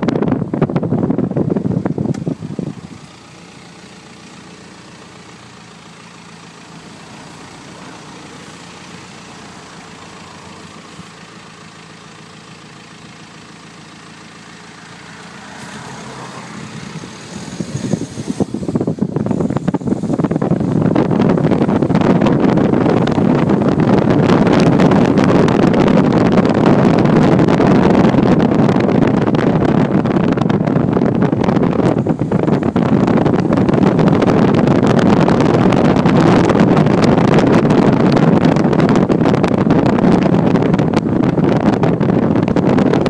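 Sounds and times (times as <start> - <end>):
wind buffeting microphone: 0.0 - 11.6, 14.7 - 43.0
car engine hum: 0.0 - 43.0.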